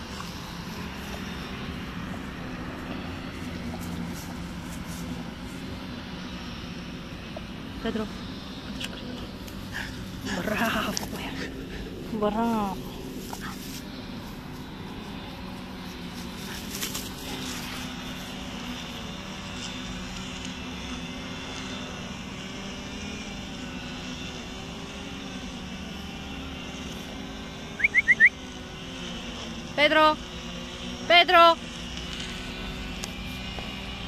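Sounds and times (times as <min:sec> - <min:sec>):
distant engine drone: 0:00.0 - 0:34.0.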